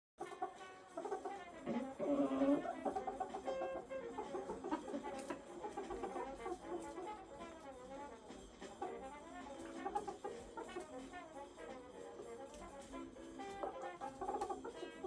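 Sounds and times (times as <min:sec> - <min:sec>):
brass music with short notes: 0:00.2 - 0:15.0.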